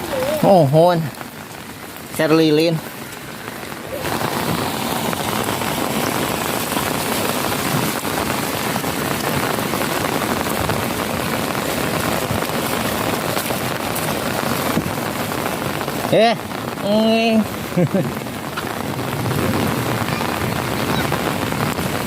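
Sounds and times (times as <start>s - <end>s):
heavy rain pattering into puddles: 0.0s - 22.0s.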